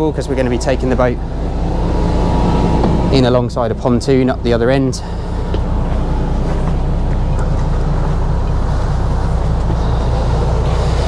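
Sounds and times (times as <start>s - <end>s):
diesel engines idling hum: 0.0s - 11.0s.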